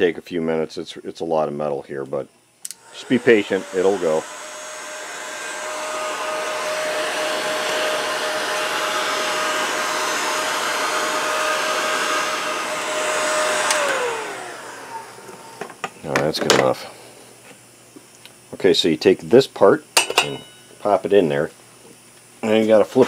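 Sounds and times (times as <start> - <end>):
heat gun fan whine: 0.0 - 23.0.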